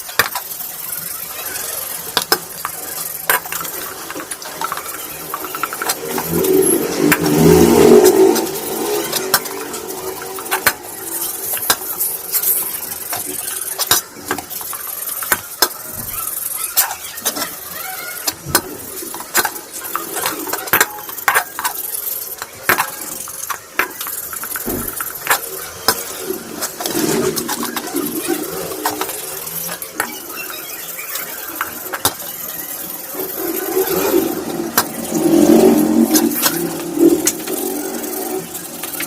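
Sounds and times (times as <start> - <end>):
metal parts clinking and scraping: 0.0 - 39.0.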